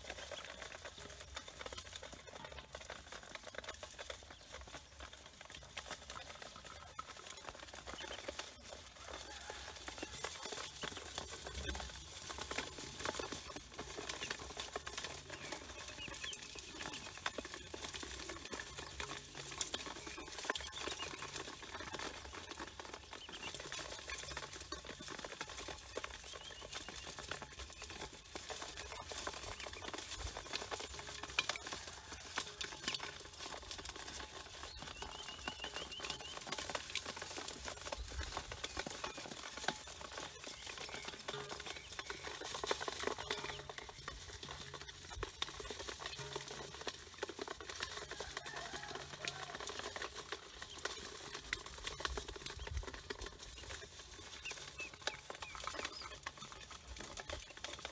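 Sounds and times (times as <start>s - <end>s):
ducklings pecking in a metal bowl: 0.0s - 57.9s.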